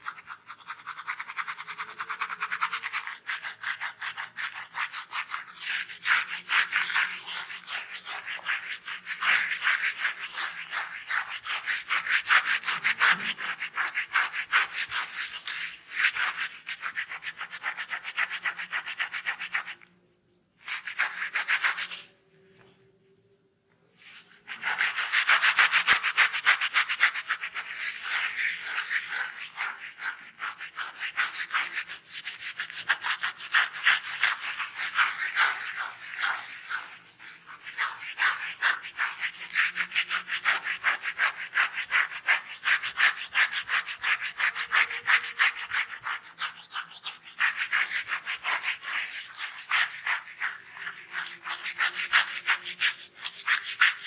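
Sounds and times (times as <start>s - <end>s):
scratching scalp through hair: 0.0s - 19.9s, 20.6s - 22.2s, 23.9s - 54.0s.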